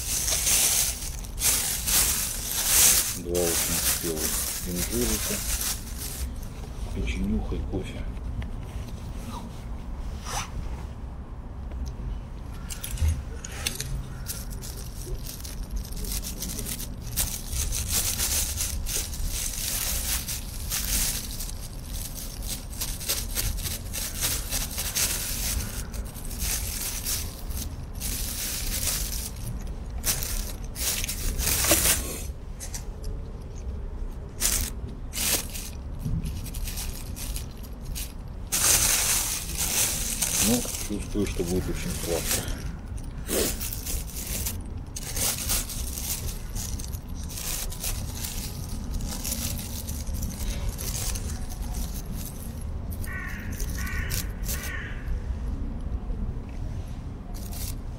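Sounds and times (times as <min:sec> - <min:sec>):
plastic bag crinkling: 0:00.0 - 0:07.1, 0:12.7 - 0:33.6, 0:34.2 - 0:54.9.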